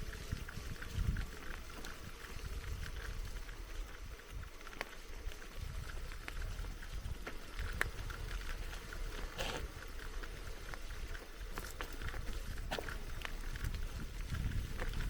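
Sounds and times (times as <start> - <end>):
bicycle tyres rumbling on dirt: 0.0 - 15.0
bike clicks and rattles: 0.0 - 15.0.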